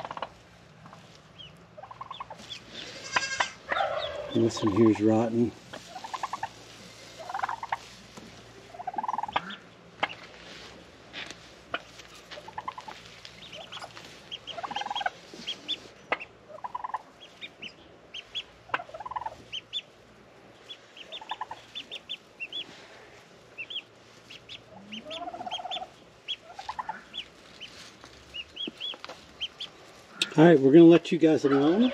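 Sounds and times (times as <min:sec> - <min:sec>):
turkey hen clucking: 0:00.0 - 0:30.6, 0:31.2 - 0:31.9
ducklings peeping: 0:00.0 - 0:31.9.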